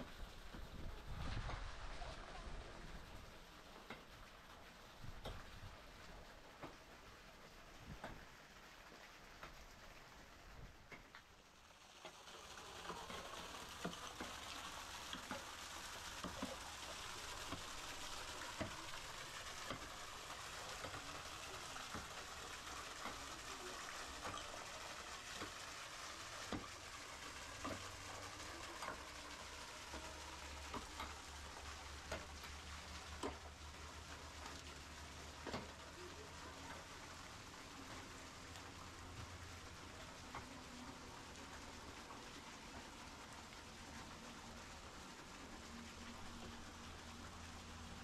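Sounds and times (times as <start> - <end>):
waterfall splashing on rock: 0.1 - 48.0.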